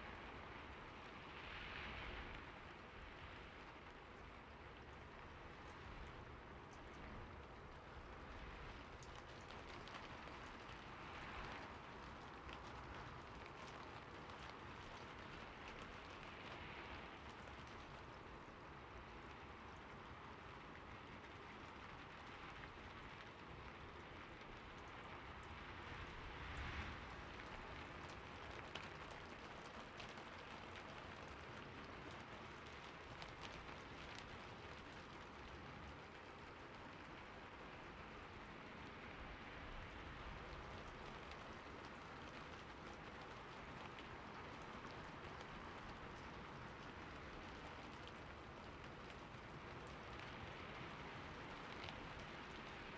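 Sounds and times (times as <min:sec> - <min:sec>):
rain on a roof: 0:00.0 - 0:52.9.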